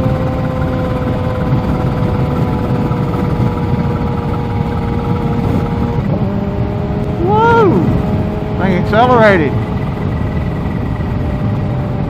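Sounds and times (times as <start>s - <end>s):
motorcycle engine cruising: 0.0s - 12.0s
wind noise on microphone: 0.0s - 12.0s.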